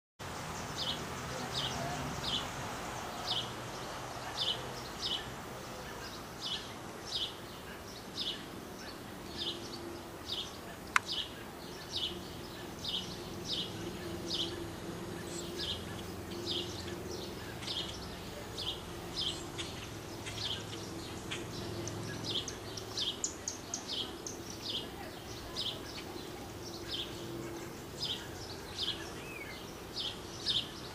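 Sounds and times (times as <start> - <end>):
bird chirping: 0.4 - 30.9.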